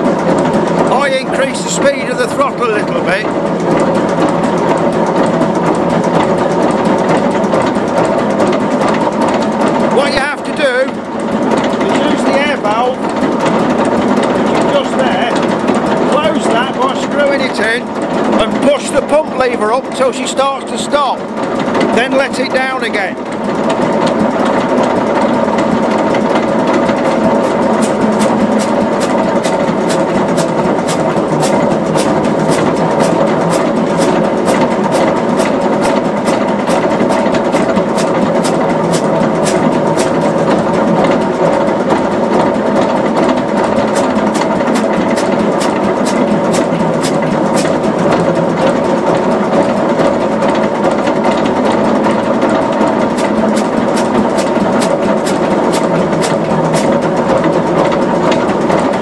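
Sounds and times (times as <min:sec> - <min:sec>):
air pump ticking: 0:00.0 - 0:59.0
diesel engine running: 0:00.0 - 0:59.0.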